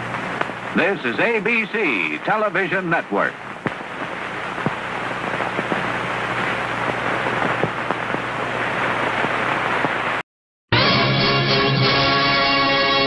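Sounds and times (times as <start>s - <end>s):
film soundtrack hiss and crackle: 0.0s - 10.2s, 10.8s - 13.0s.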